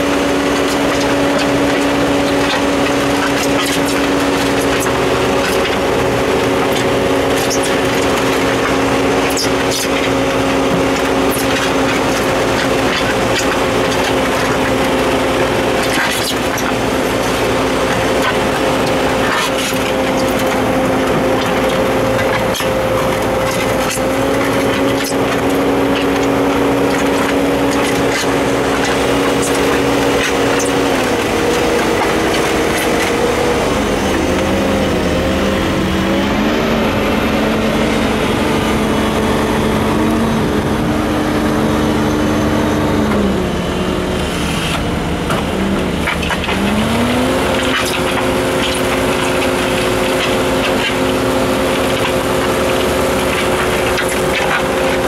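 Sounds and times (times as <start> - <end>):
diesel engine and hydraulics droning: 0.0 - 55.0.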